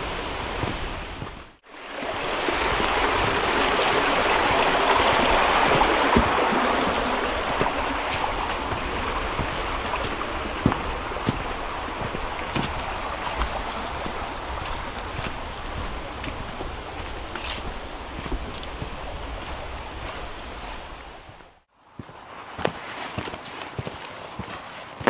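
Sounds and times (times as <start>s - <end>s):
rushing stream water: 0.0s - 25.0s.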